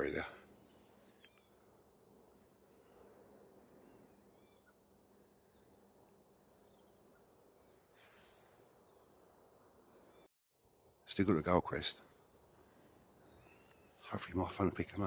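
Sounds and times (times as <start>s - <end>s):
thin high-pitched bird calls: 0.0s - 11.1s, 11.8s - 15.0s
lower bird chirp: 0.0s - 15.0s.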